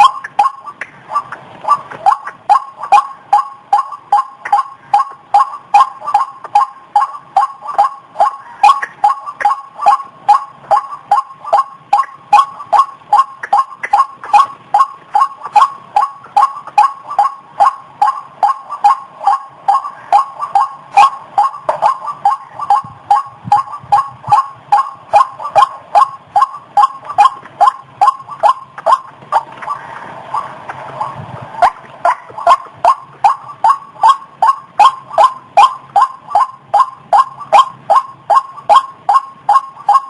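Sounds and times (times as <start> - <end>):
bird calling repeatedly: 0.0 - 40.0.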